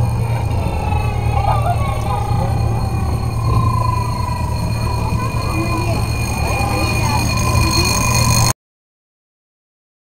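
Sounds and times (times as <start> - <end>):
high tone: 0.0 - 8.6
road train rumbling: 0.0 - 8.6.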